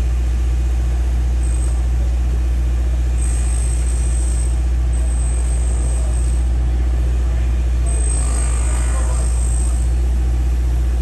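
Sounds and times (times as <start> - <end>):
diesel engine humming: 0.0 - 11.0
faint high whine: 1.2 - 11.0.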